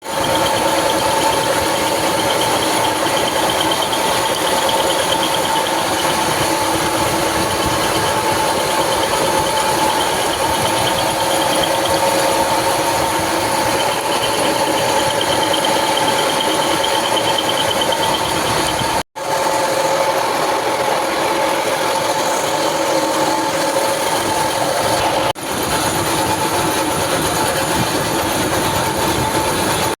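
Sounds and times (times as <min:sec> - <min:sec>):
milling machine cutting: 0:00.0 - 0:30.0.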